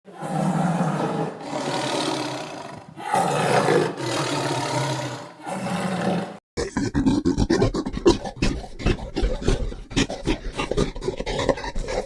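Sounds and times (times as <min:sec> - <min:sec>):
large animal roaring: 0:00.1 - 0:12.0.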